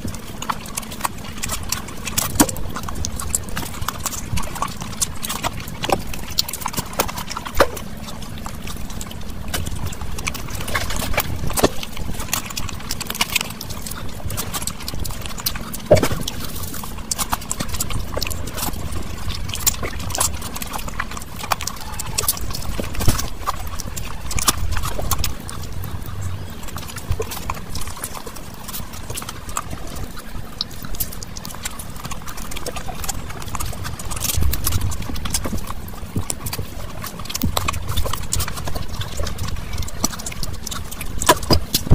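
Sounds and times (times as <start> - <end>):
chewing and mouth smacks: 0.0 - 41.9.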